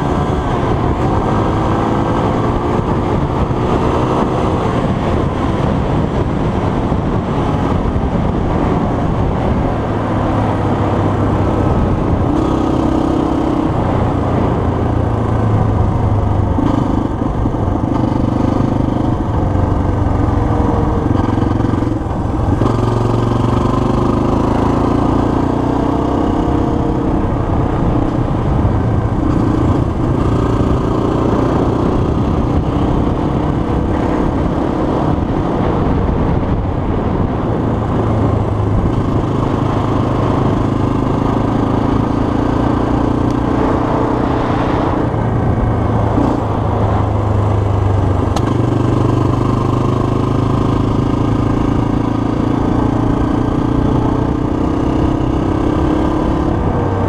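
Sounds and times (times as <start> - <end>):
dirt bike engine running: 10.8 - 57.0.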